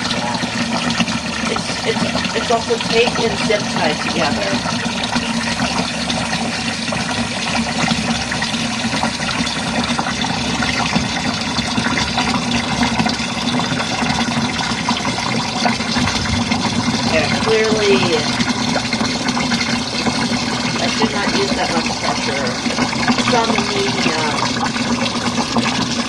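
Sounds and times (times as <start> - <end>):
water gushing into a tub: 0.0 - 26.0.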